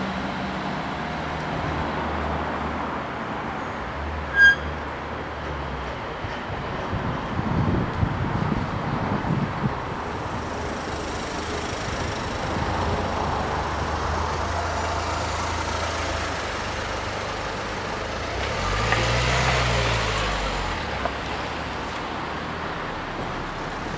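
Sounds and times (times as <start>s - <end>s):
cars driving past slowly: 0.0s - 23.9s.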